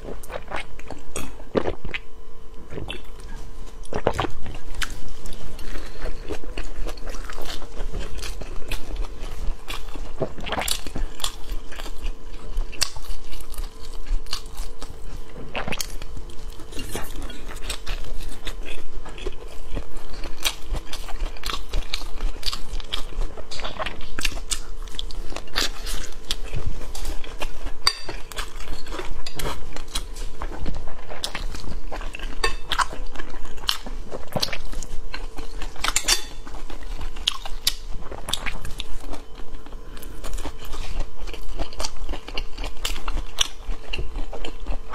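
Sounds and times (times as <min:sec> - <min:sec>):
biting and chewing food: 0:00.0 - 0:44.9
faint steady hum: 0:00.0 - 0:44.9.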